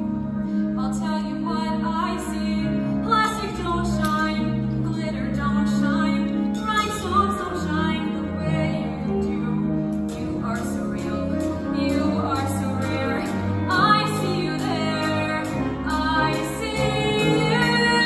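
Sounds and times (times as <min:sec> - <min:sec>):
instrumental accompaniment: 0:00.0 - 0:18.0.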